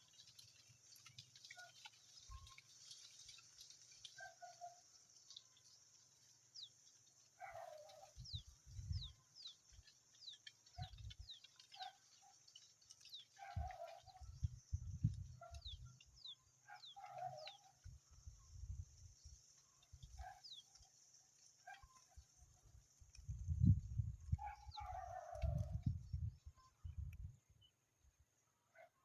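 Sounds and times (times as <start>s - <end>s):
nestlings peeping: 0.0s - 23.6s.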